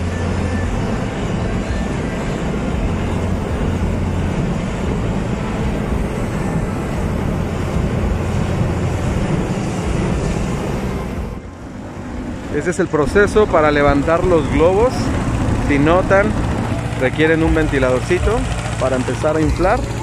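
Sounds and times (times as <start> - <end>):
propane burner firing: 0.0 - 20.0.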